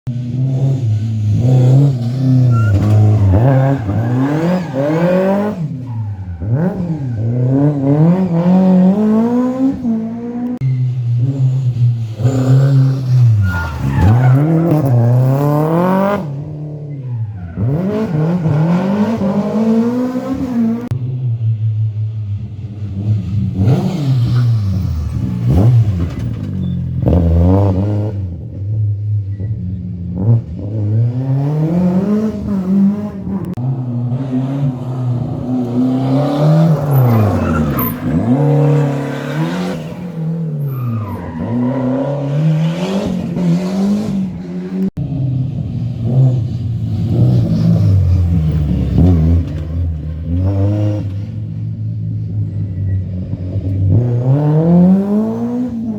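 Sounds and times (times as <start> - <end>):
rally car engines revving: 0.1 - 55.9.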